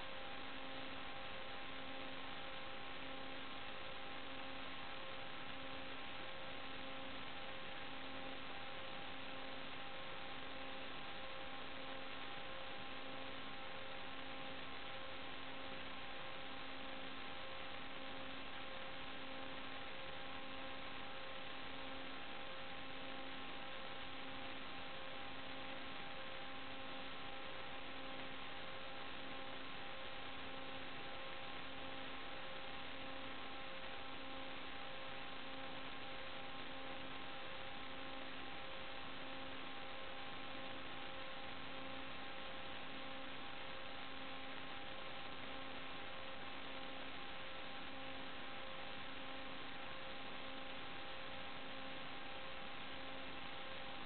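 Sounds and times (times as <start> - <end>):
electrical hiss and hum: 0.0 - 54.0.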